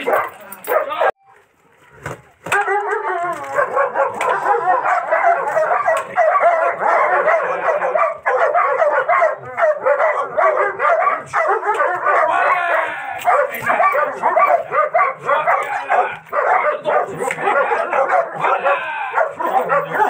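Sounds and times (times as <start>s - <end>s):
dog barking aggressively: 0.0s - 1.1s, 2.5s - 20.0s.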